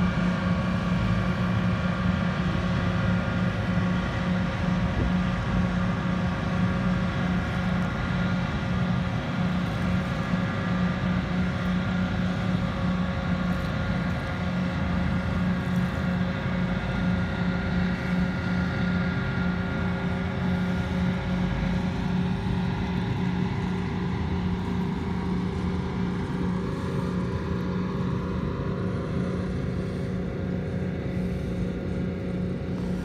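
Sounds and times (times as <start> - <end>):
diesel engines running under load: 0.0 - 33.0.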